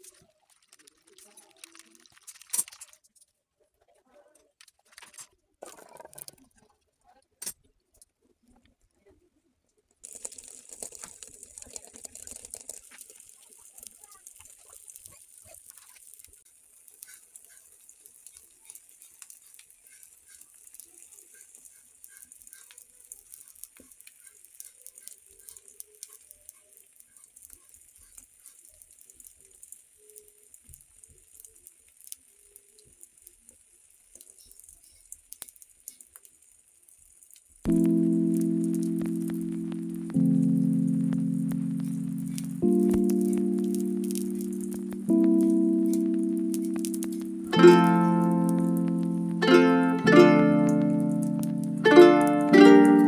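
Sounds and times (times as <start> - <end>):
omelette sizzling in a pan: 10.0 - 53.0.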